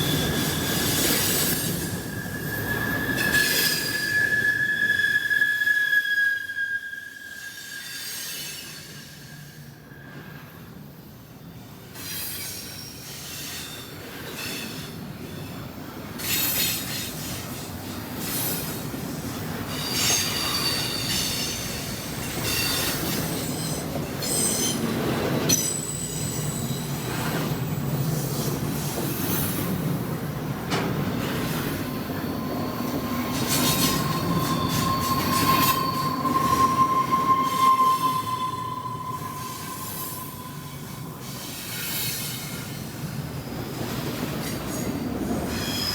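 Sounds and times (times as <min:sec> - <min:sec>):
freight train cars rolling: 0:00.0 - 0:09.7, 0:12.0 - 0:45.9
steel wheels squealing on rails: 0:00.0 - 0:45.9.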